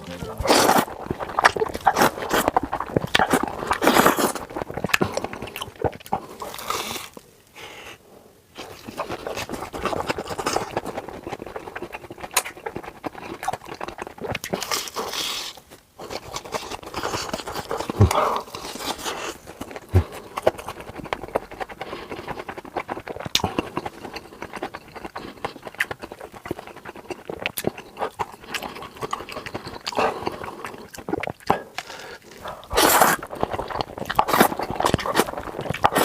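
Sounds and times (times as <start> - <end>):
person chewing and crunching food: 0.0 - 7.3, 8.6 - 36.0.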